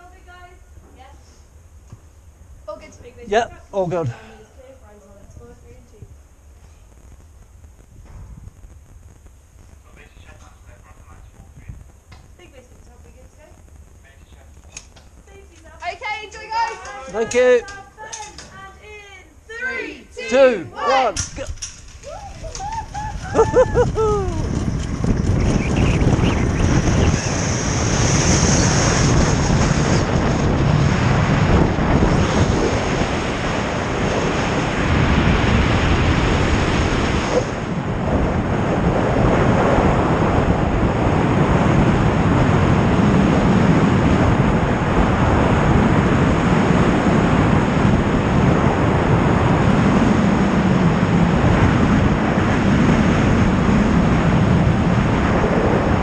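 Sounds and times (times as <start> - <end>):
wind rushing over microphone: 0.0 - 19.5, 20.2 - 56.0.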